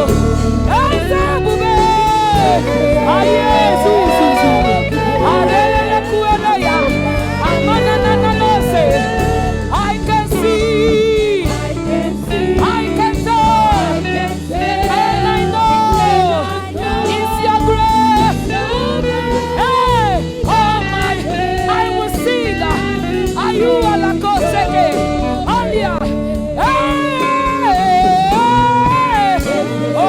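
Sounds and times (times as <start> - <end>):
instrumental accompaniment: 0.0 - 30.0
lead voice singing with vibrato: 0.0 - 30.0.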